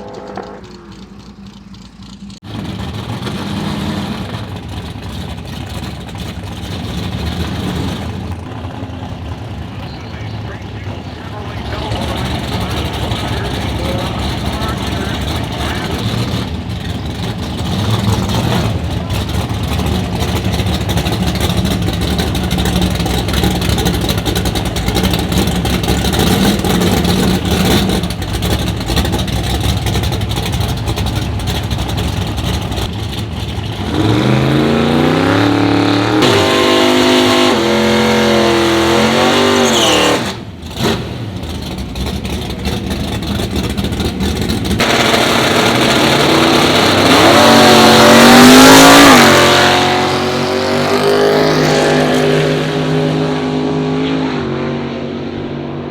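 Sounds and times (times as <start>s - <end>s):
drag-race car engines revving: 0.0s - 55.9s.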